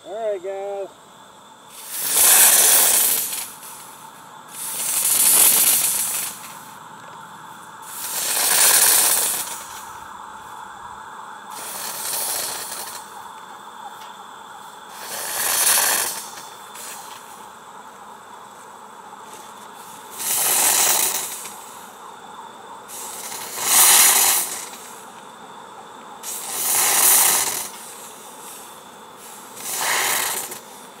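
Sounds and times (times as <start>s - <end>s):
burner hissing: 0.0s - 31.0s
hissing bursts of fog: 0.1s - 31.0s.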